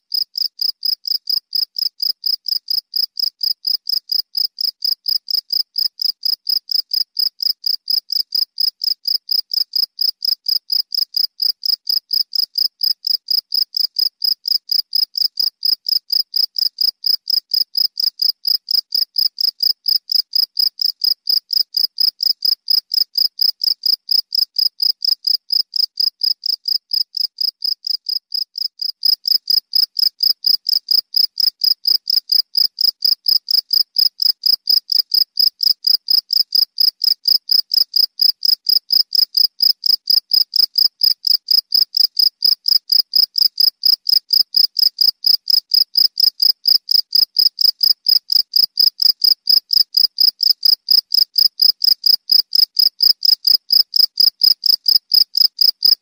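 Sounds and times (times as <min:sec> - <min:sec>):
cricket chirping: 0:00.1 - 0:56.0.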